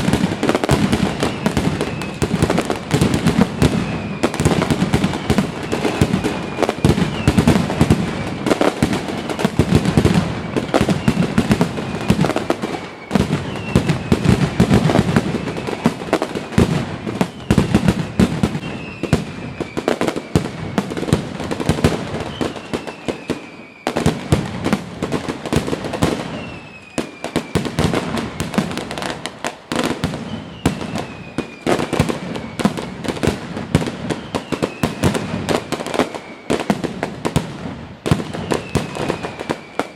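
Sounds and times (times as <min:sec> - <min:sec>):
fireworks bangs and crackling: 0:00.0 - 0:39.9
high falling firework whistle: 0:00.0 - 0:39.9.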